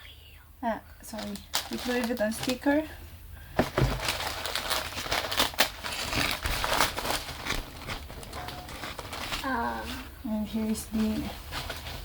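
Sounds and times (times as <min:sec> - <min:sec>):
paper wrapping crinkling: 0:01.1 - 0:02.8, 0:03.6 - 0:12.0.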